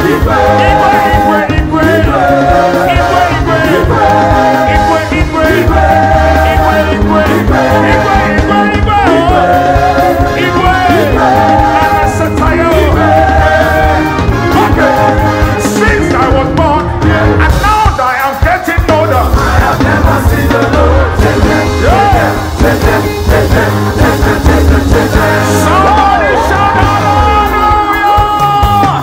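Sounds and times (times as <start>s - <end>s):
bass and drum beat: 0.0s - 29.0s
gospel band and singers: 0.0s - 29.0s.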